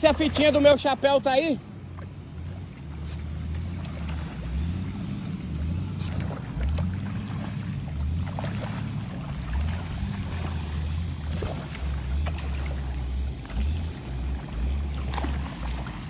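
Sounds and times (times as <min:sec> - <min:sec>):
motor droning: 0:01.9 - 0:16.0.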